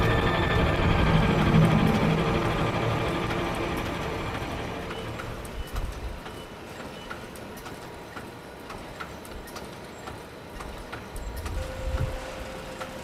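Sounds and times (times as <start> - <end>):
low machine hum: 0.0 - 13.0
machinery clicks and ticks: 0.0 - 13.0.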